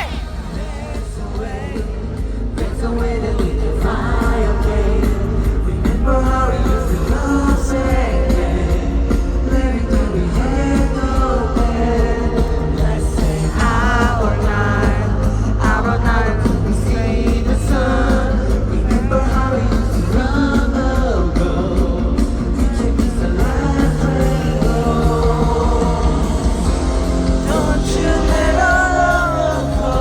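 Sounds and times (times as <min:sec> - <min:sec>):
man singing lead vocal: 0:00.0 - 0:30.0
pop-rock band playing: 0:00.0 - 0:30.0.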